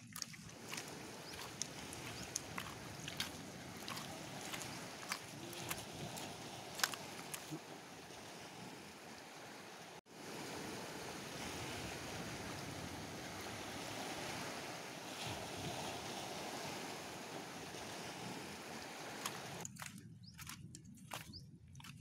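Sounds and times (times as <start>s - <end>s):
surf on rocky shore: 0.0s - 19.7s
wind: 0.0s - 22.0s.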